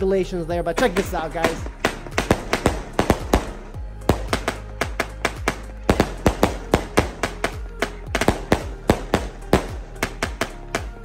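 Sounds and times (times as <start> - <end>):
firework shells bursting: 0.8 - 11.0.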